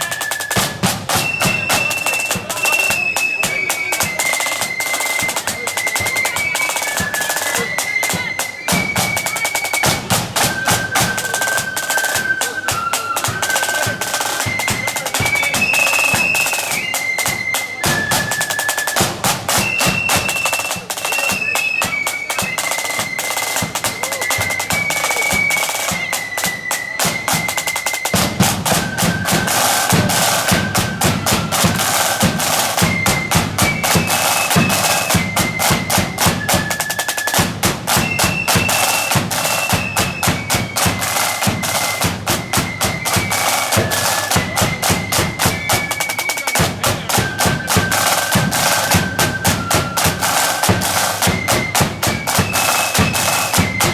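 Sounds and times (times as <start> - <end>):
flutes playing tune: 0.0 - 53.9
snare and bass drums: 0.0 - 53.9.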